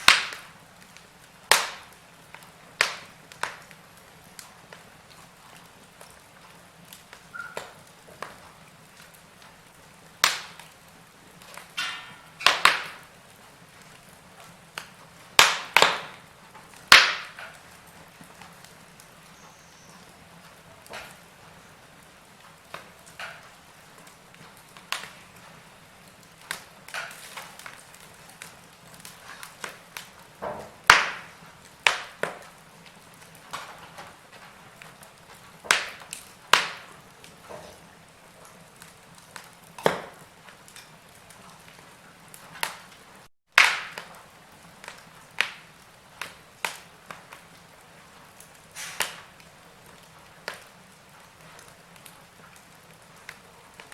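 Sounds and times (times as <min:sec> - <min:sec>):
soft steady hiss: 0:00.0 - 0:43.3
wood fire crackling: 0:00.0 - 0:53.9.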